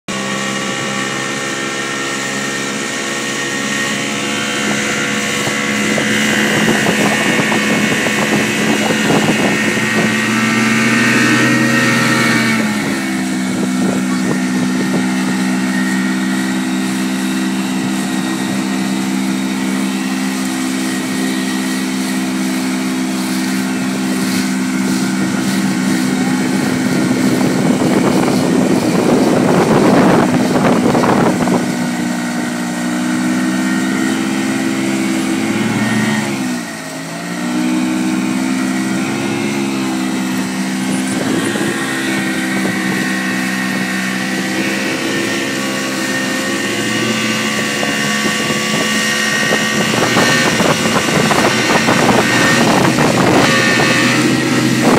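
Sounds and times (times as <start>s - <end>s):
outboard motor running: 0.0s - 54.9s
wind: 0.0s - 54.9s
rushing water: 0.1s - 54.9s.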